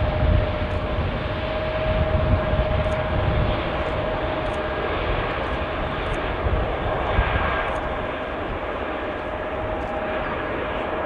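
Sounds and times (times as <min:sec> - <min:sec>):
jet engines running: 0:00.0 - 0:11.0
mid-pitched engine whine: 0:00.0 - 0:11.0.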